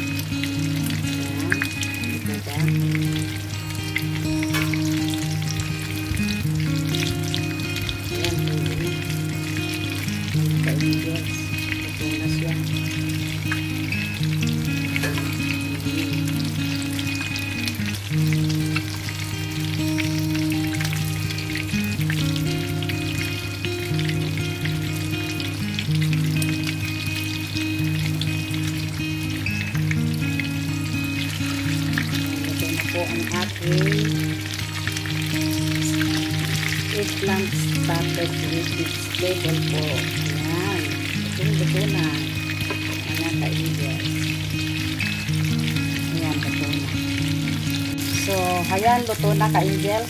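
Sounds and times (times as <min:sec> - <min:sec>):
background music: 0:00.0 - 0:50.0
eggplant sizzling in oil: 0:00.0 - 0:50.0.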